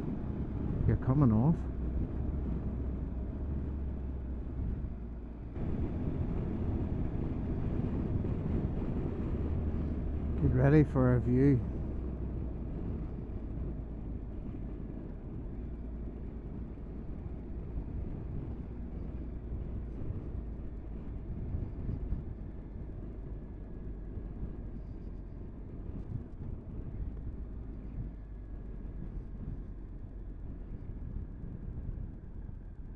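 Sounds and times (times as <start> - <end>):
wind rush on microphone: 0.0 - 32.9.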